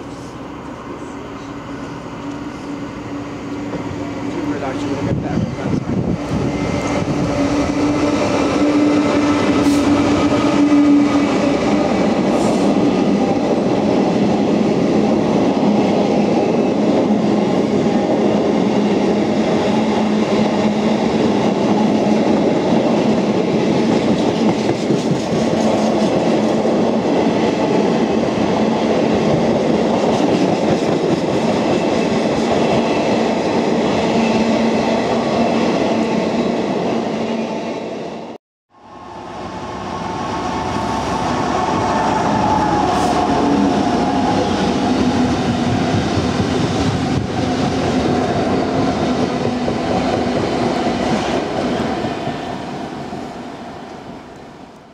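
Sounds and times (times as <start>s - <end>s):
train wheels on rails: 0.0s - 37.8s, 39.4s - 54.9s
diesel locomotive engine passing: 0.0s - 54.9s.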